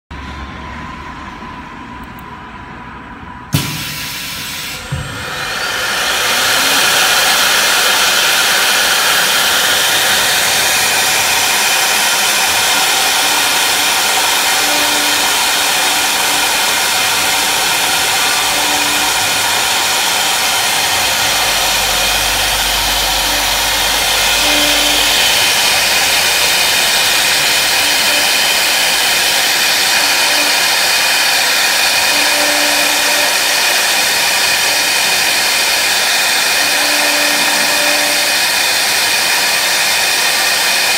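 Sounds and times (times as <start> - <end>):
short low hums: 3.7 - 38.9
router spindle cutting wood: 4.8 - 40.9.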